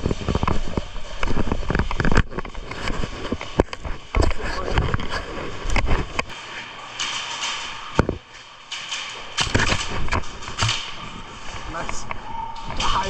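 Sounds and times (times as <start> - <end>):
rustling noise: 0.0 - 13.0.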